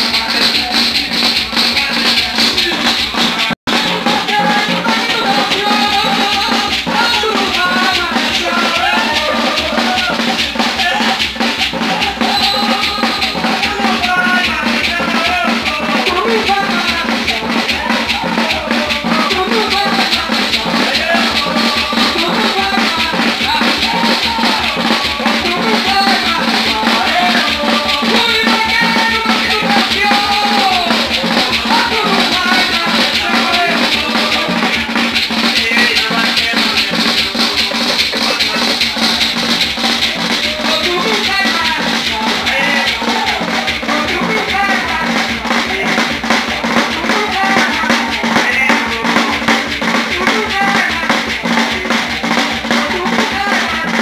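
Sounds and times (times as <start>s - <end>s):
drums beating: 0.0s - 54.0s
shaken rattles: 0.0s - 54.0s
voices singing: 0.0s - 54.0s.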